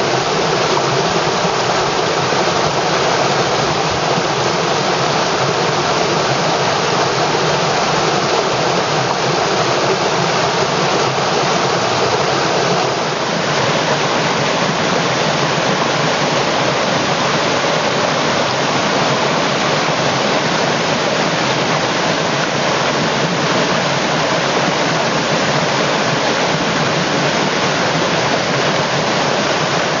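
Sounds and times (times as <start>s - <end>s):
river water rushing over stones: 0.0s - 30.0s.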